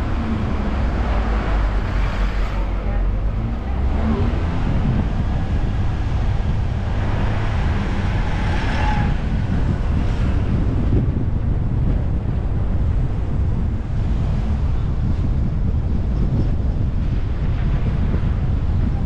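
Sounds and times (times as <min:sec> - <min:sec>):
road and wind noise: 0:00.0 - 0:19.0
wind buffeting microphone: 0:00.0 - 0:19.0.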